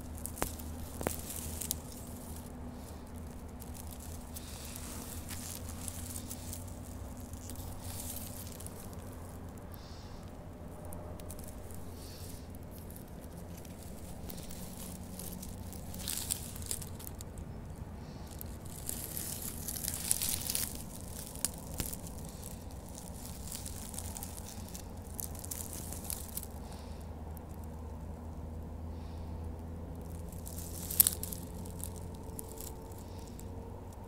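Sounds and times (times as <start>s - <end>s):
dry pine needles rustling: 0.0s - 34.0s
low steady rumble: 0.0s - 34.0s.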